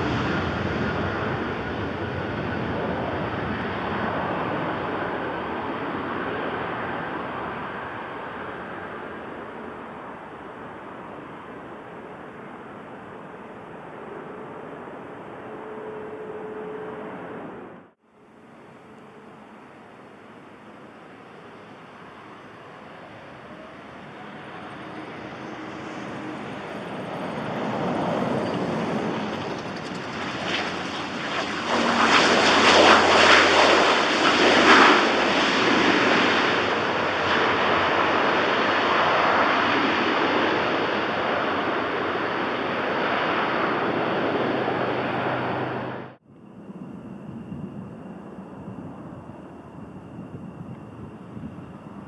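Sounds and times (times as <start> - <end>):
airplane passing close by: 0.0 - 52.0.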